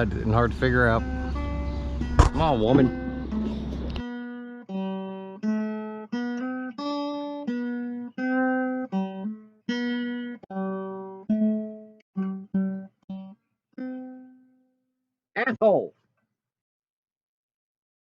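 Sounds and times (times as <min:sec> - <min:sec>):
acoustic guitar picking melody: 0:00.0 - 0:14.7.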